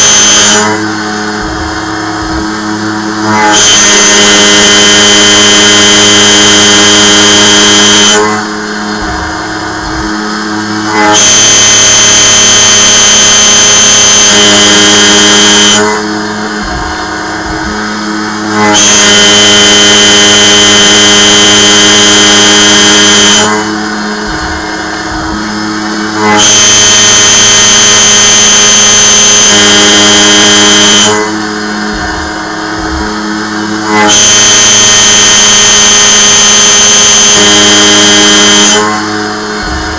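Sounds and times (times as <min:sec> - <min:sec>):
high-pitched cutting squeal: 0:00.0 - 0:39.9
milling machine cutting steel: 0:00.0 - 0:39.9.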